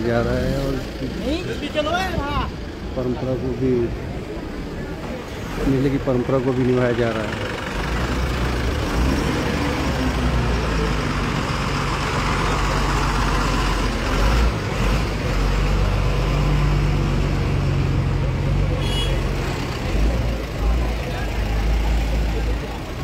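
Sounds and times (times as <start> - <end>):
heavy vehicle engine idling: 0.0 - 23.0
street traffic: 0.0 - 23.0.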